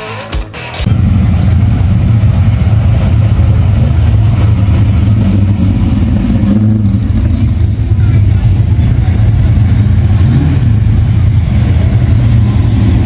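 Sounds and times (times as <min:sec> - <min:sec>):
car engine idling: 0:00.8 - 0:13.0.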